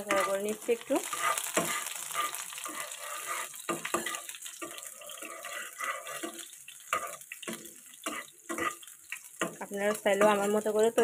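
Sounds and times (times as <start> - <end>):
spatula scraping a pan: 0.0 - 10.6
garlic sizzling in hot oil: 0.0 - 11.0.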